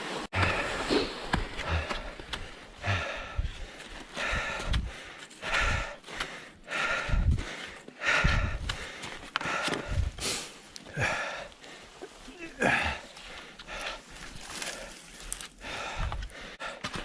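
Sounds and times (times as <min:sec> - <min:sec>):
person breathing hard: 0:00.4 - 0:17.0.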